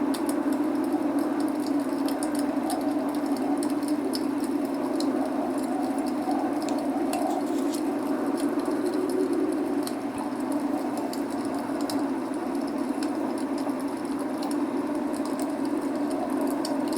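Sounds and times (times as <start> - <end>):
log fire crackling: 0.0 - 16.9
rain rushing: 0.0 - 16.9.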